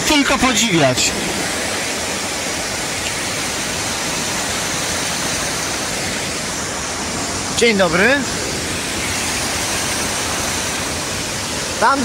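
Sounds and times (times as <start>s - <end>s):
waterfall and stream rushing: 0.0s - 12.0s.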